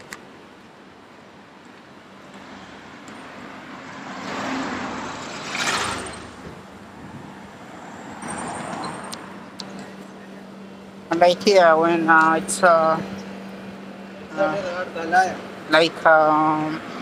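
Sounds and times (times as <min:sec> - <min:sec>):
cars passing: 0:01.0 - 0:17.0.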